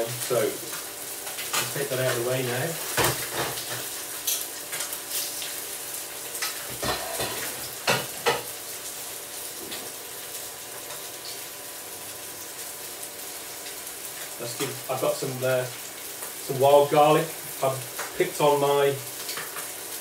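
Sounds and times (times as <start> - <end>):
fish sizzling in a frying pan: 0.0 - 20.0.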